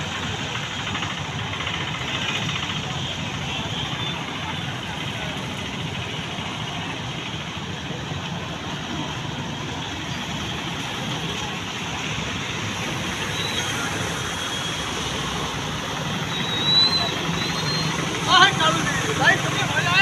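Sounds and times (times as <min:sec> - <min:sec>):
small engines running: 0:00.0 - 0:20.0.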